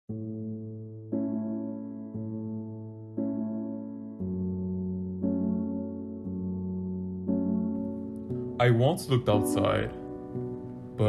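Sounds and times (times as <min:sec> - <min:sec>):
slow piano chords ringing: 0:00.1 - 0:11.0.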